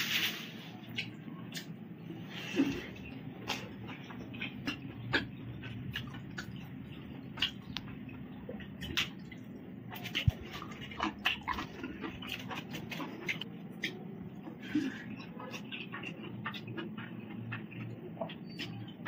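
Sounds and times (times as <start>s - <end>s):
steady low hum: 0.0s - 19.0s
chewing and lip smacks: 0.8s - 19.0s.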